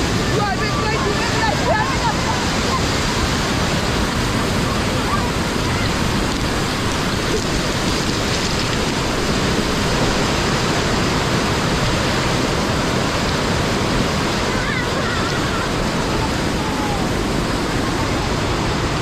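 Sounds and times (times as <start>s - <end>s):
rushing floodwater roar: 0.0s - 19.0s.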